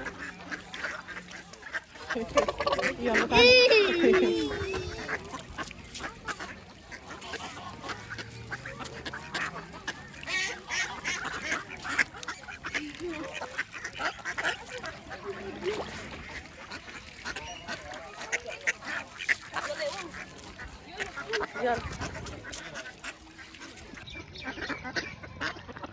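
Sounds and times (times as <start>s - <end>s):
waterfowl honking and quacking: 0.0s - 25.9s.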